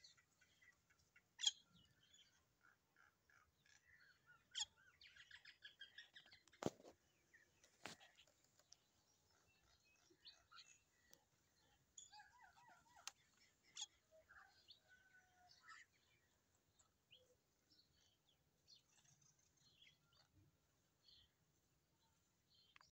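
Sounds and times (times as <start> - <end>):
bird chirps: 0.0 - 20.4.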